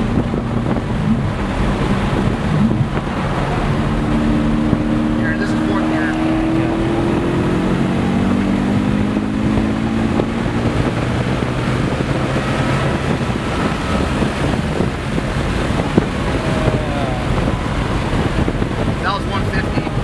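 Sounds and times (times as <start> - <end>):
car engine at full throttle: 0.0 - 20.0
wind and road noise: 0.0 - 20.0.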